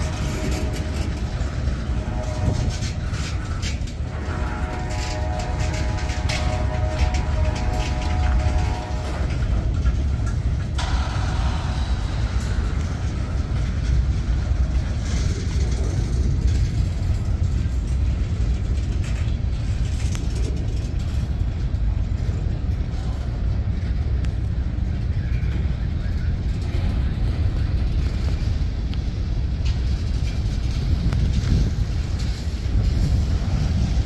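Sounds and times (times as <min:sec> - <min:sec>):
train cars clanking: 0:00.0 - 0:34.0
train wheels rumbling on rails: 0:00.0 - 0:34.0.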